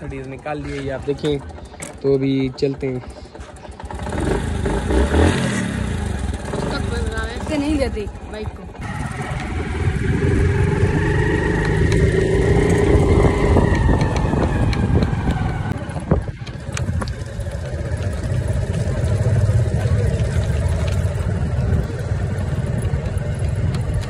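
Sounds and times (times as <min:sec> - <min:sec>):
motorcycle engine running: 0:00.0 - 0:24.0
wind and road rumble: 0:00.0 - 0:24.0.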